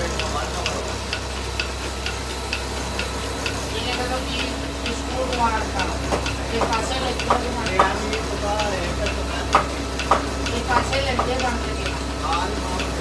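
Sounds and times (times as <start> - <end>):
lathe humming: 0.0 - 13.0
scattered clicks: 0.0 - 13.0.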